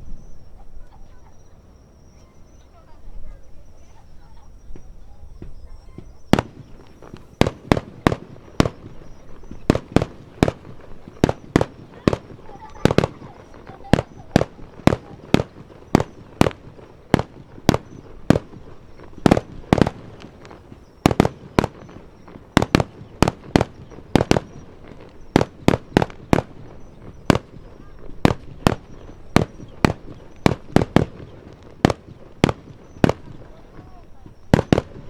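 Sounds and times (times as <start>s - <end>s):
firework shells bursting: 4.7s - 35.0s.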